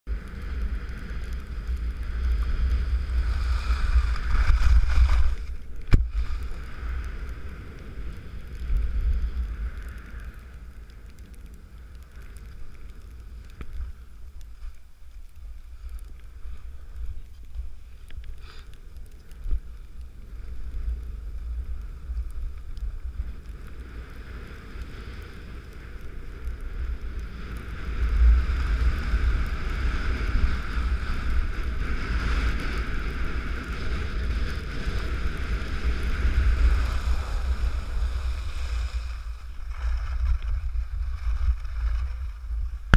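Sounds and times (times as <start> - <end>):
wind rumbling on microphone: 0.0 - 42.9
snowboard sliding over snow: 0.1 - 42.9.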